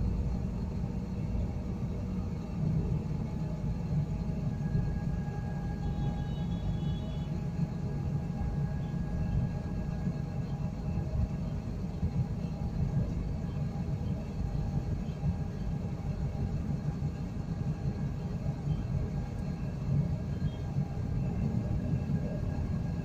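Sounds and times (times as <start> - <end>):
crane engine rumble: 0.0 - 23.0
faint hum: 0.0 - 23.0.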